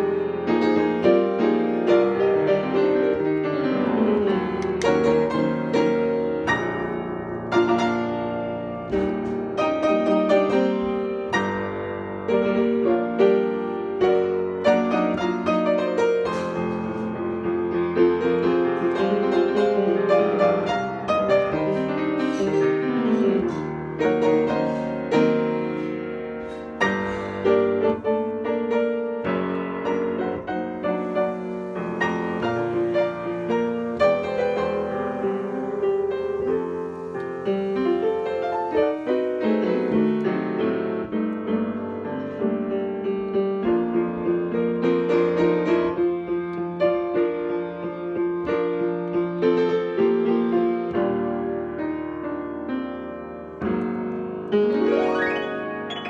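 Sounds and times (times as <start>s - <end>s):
upright piano playing: 0.0s - 56.0s.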